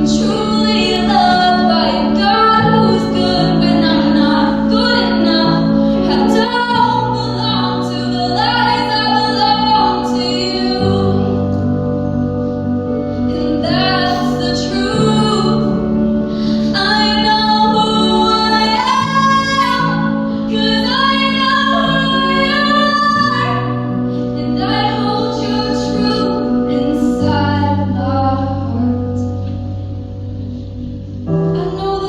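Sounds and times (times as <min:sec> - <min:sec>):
woman singing: 0:00.0 - 0:11.8, 0:13.2 - 0:29.4, 0:31.5 - 0:32.0.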